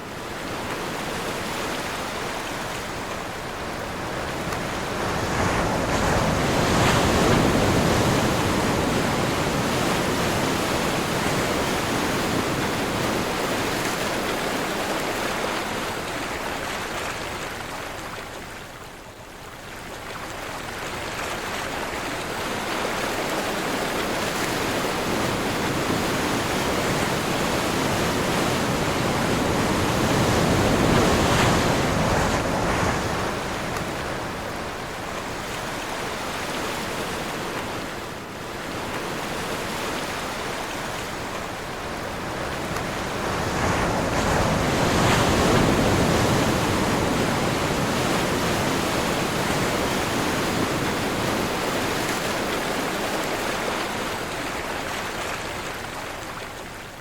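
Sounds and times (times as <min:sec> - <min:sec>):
ocean waves breaking: 0:00.0 - 0:18.2, 0:20.5 - 0:57.0
wind: 0:00.0 - 0:57.0.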